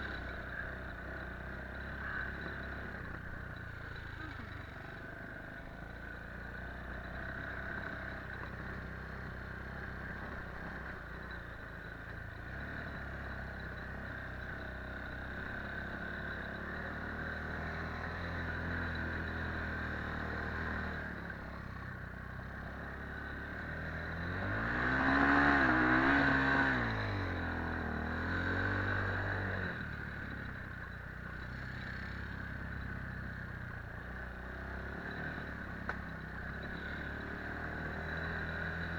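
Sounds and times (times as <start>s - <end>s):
quad bike engine whining: 0.0s - 38.9s.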